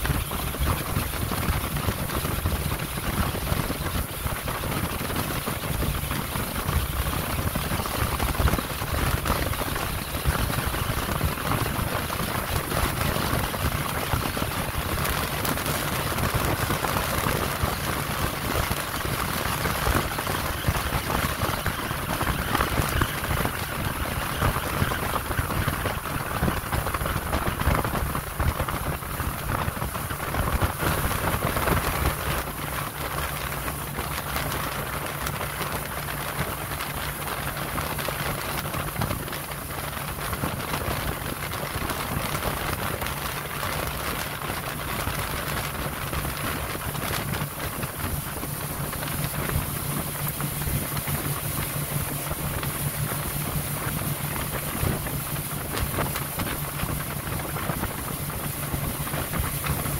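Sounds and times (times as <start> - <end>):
choppy water and wind: 0.0 - 59.9
low engine hum: 0.0 - 59.9.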